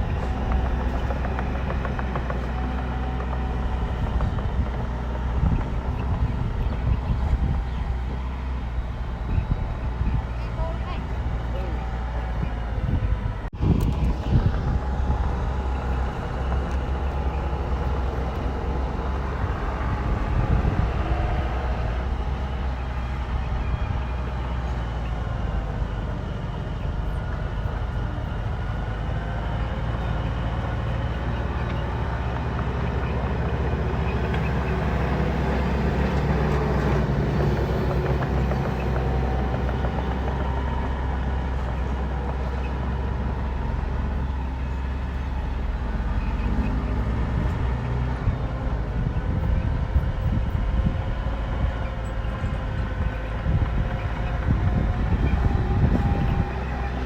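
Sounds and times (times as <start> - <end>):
bulldozer diesel engine working: 0.0 - 57.0.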